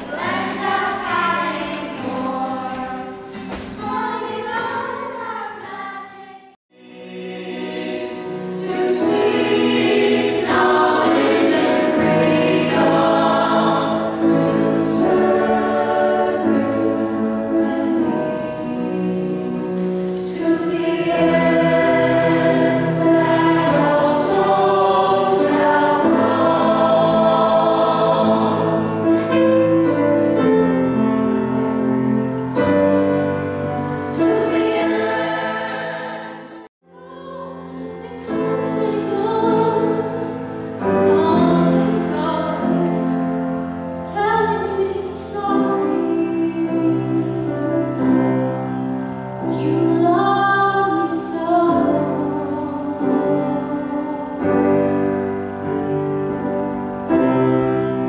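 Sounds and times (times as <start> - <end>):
mixed choir singing: 0.0 - 31.8, 32.5 - 48.5, 49.4 - 55.8.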